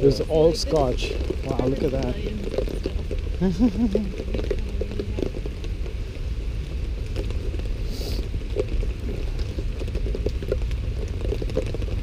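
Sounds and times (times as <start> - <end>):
steady rain rumble: 0.0 - 12.0.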